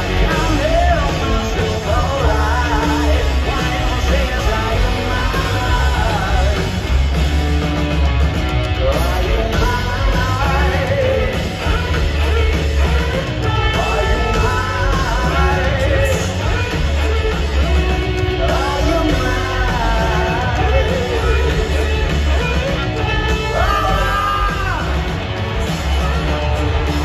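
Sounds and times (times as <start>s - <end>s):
live rock band with vocals: 0.0s - 27.0s.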